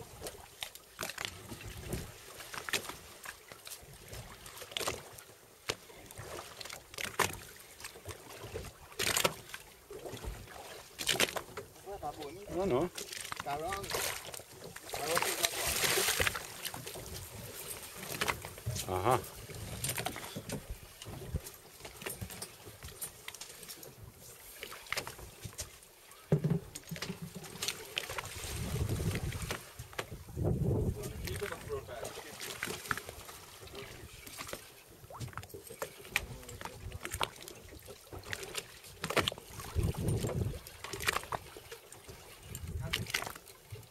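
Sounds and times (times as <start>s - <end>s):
water splashing against boat hull: 0.0s - 43.9s.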